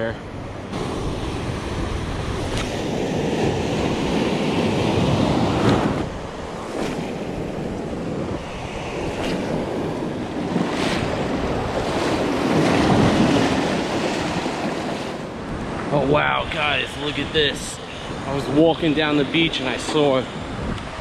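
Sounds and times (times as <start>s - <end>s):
wind buffeting microphone: 0.0s - 21.0s
surf washing over rocks: 0.7s - 21.0s.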